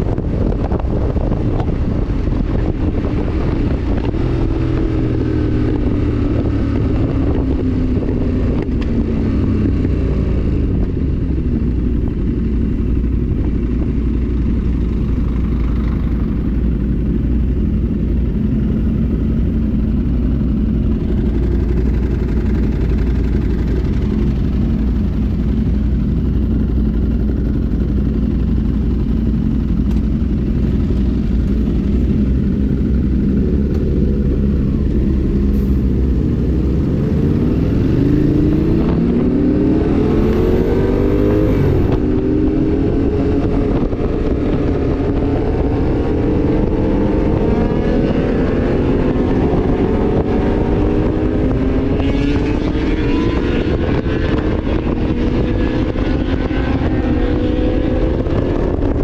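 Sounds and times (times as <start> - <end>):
motorcycle engine: 0.0 - 59.0
wind noise on microphone: 0.0 - 59.0.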